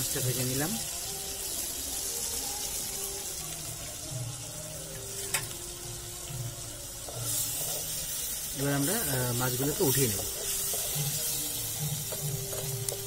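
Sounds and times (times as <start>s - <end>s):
prawns sizzling in oil: 0.0s - 13.0s.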